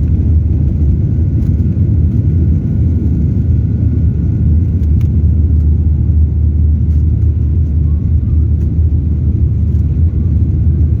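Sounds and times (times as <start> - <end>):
airplane engines rumbling: 0.0 - 11.0.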